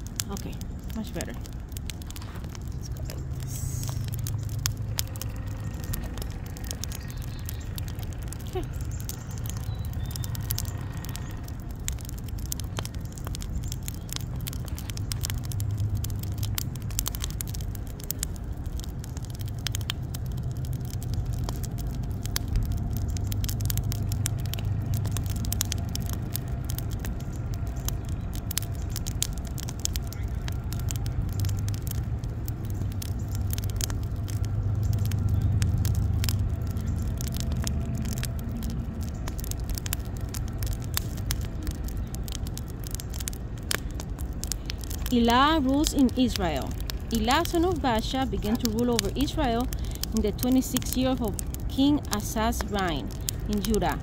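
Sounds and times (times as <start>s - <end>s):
fire snaps and pops: 0.0s - 54.0s
steady low rumble: 0.0s - 54.0s
wood fire crackling: 0.0s - 54.0s.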